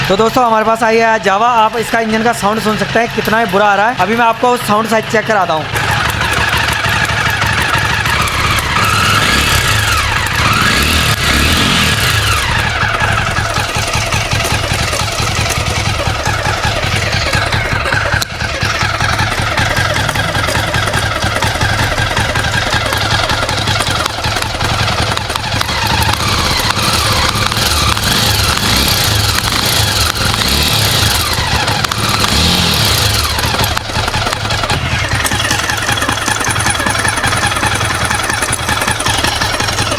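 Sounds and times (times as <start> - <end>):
abnormal mechanical engine noise: 0.0 - 39.9
motorcycle engine revving: 0.0 - 39.9.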